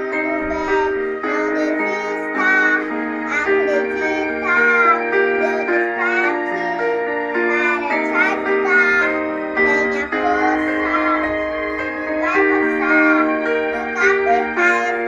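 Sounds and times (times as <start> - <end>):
girl singing slow song: 0.0 - 15.0
keyboard accompaniment: 0.0 - 15.0.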